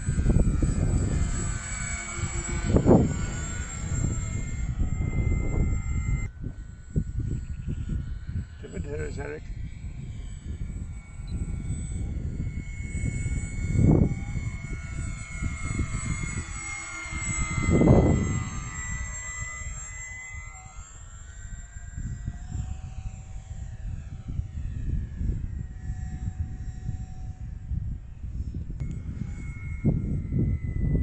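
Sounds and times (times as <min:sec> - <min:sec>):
model aircraft motor whine: 0:00.0 - 0:31.0
wind rumbling on microphone: 0:00.0 - 0:31.0.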